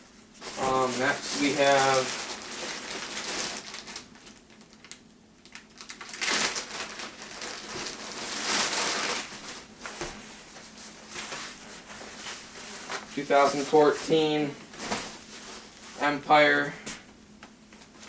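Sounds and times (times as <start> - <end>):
packaging rustling: 0.4 - 16.0.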